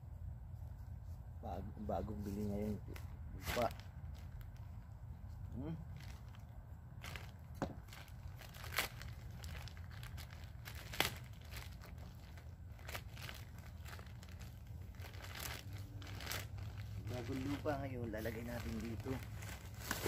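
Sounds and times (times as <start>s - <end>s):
plastic bag crinkling and tearing: 2.8s - 4.8s, 5.9s - 20.0s.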